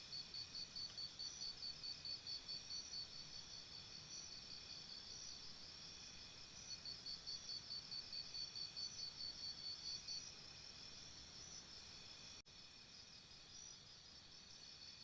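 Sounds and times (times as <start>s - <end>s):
insect chirping trill: 0.0s - 15.0s.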